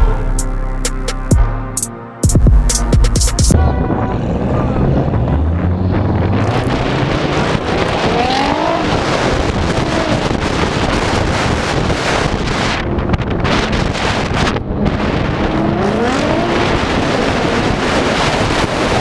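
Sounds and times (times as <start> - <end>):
sports car engines running: 2.6 - 19.0
engine revving: 3.5 - 19.0
wind buffeting microphone: 3.5 - 19.0.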